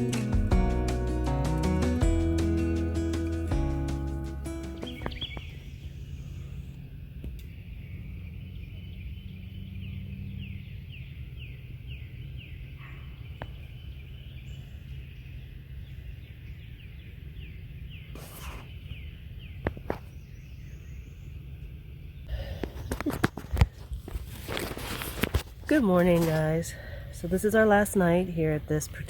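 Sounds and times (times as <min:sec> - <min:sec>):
birds chirping: 0:00.0 - 0:23.9, 0:25.7 - 0:29.0
distant highway traffic rumble: 0:03.8 - 0:29.0.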